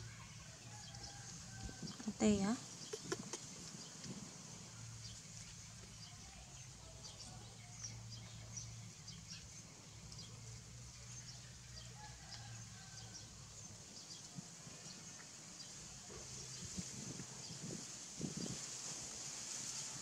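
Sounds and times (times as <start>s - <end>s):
faint distant bird calls: 0.0s - 16.8s.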